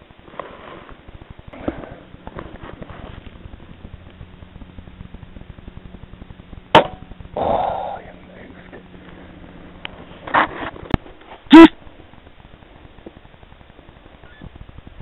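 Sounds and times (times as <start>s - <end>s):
dull burst of noise: 0.0s - 15.0s
steady low hum: 0.0s - 15.0s.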